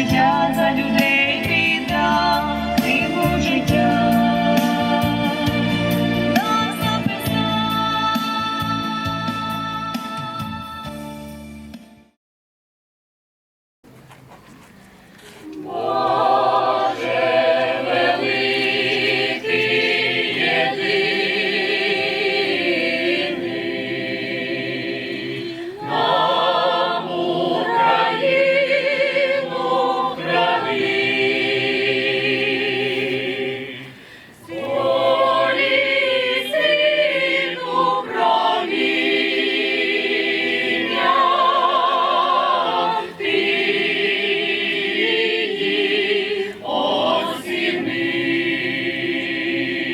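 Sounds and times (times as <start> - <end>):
choir singing: 0.0 - 8.9, 15.4 - 49.9.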